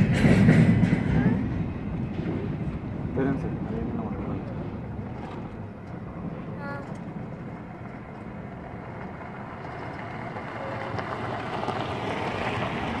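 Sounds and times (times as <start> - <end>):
pickup truck engine: 0.0 - 13.0
tyres on gravel: 0.0 - 13.0.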